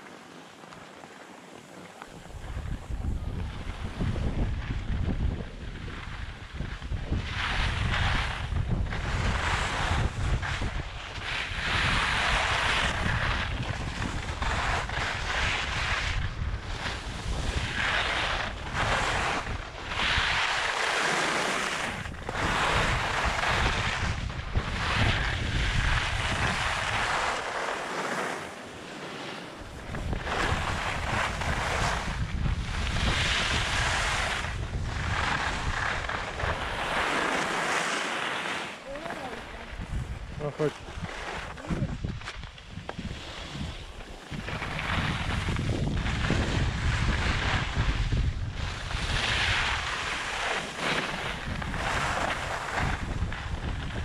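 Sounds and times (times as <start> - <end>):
skis scraping over snow: 0.0 - 54.0
wind buffeting microphone: 2.1 - 20.8, 21.6 - 27.5, 29.6 - 37.4, 38.8 - 54.0.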